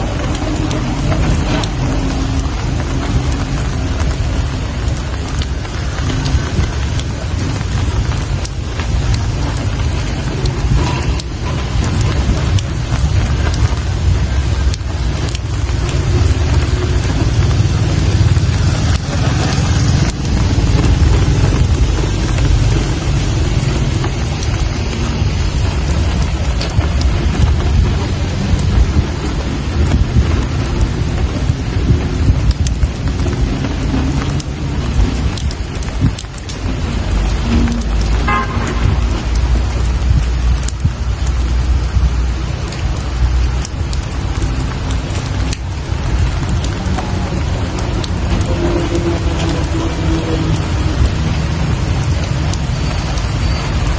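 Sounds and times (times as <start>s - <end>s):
deep low rumble: 0.0s - 52.8s
rain falling: 0.0s - 53.9s.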